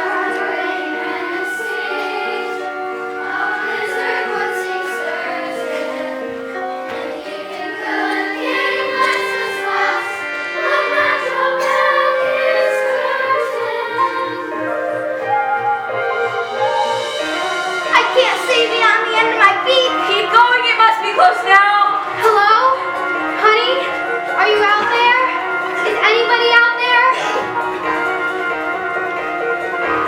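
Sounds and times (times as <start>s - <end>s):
choir singing: 0.0s - 30.0s
musical accompaniment: 0.0s - 30.0s.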